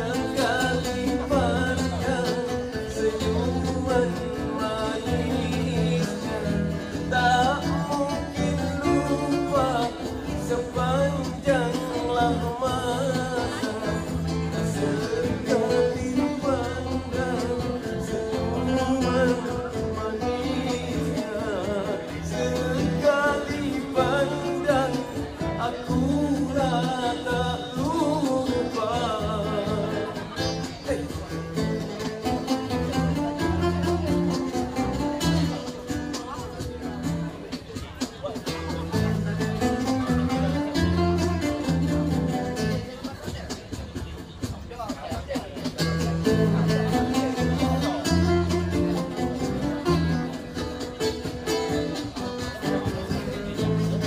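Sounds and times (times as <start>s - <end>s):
man singing into a microphone: 0.0s - 43.4s, 45.8s - 54.0s
acoustic guitars playing: 0.0s - 54.0s.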